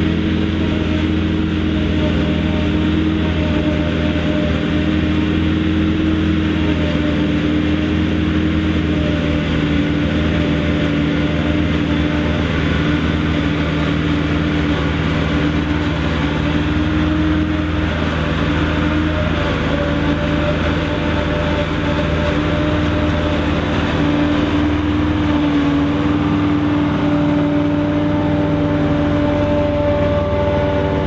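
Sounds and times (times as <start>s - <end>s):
diesel engine running under load: 0.0s - 31.0s
forage harvester chopping maize: 0.0s - 31.0s.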